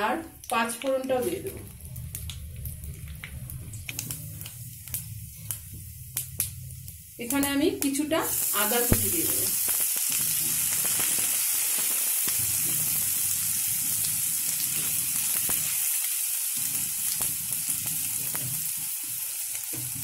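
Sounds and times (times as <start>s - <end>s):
ginger sizzling in hot oil: 0.0s - 20.0s.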